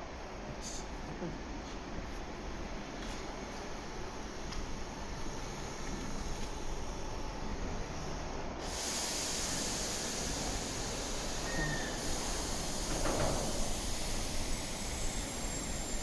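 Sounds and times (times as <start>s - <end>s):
train running rumble: 0.0s - 16.0s
steady hiss: 1.7s - 16.0s.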